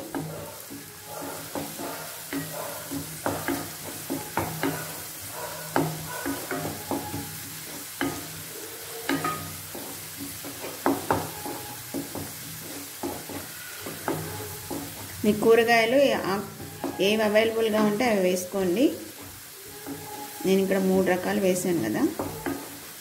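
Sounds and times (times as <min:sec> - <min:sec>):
spatula scraping a pan: 0:00.0 - 0:23.0
vegetables sizzling in oil: 0:00.0 - 0:23.0.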